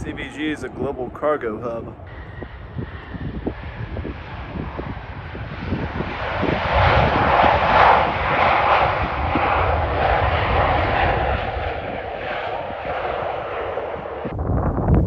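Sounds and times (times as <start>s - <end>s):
jet aircraft engine noise: 0.0s - 15.0s
wind buffeting microphone: 0.0s - 15.0s.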